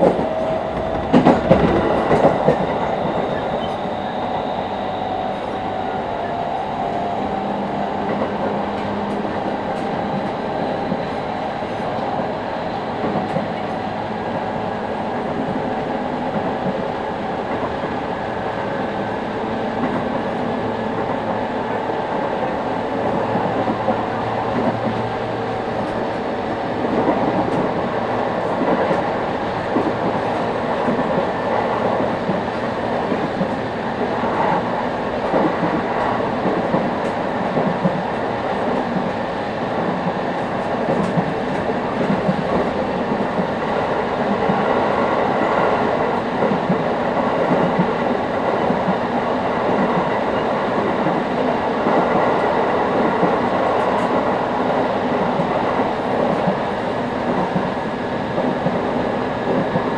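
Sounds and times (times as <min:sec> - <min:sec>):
train running gear hum: 0:00.0 - 0:59.9
train wheels rumbling on rail: 0:00.0 - 0:59.9.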